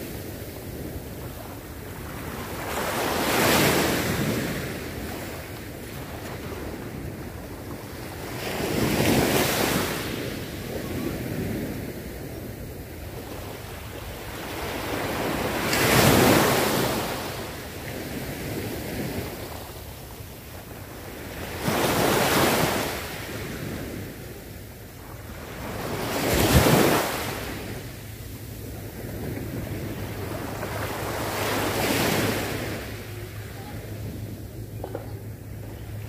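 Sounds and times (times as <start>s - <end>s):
waves breaking on beach: 0.0s - 36.0s
wind on microphone: 0.0s - 36.0s.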